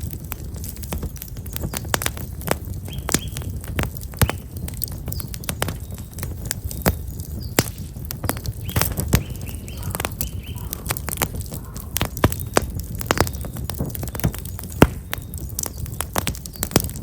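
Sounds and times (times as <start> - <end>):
campfire crackling and popping: 0.0 - 17.0
small birds chirping: 0.1 - 17.0.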